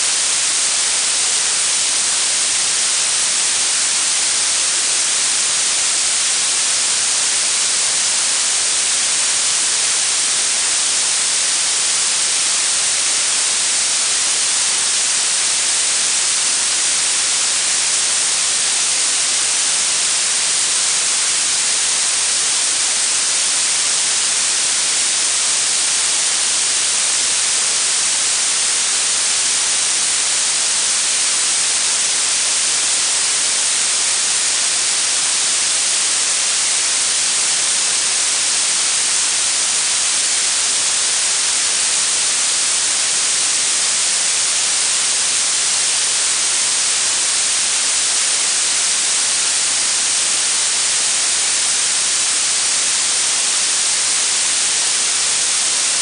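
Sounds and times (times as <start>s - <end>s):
bright blue noise hiss: 0.0s - 56.0s.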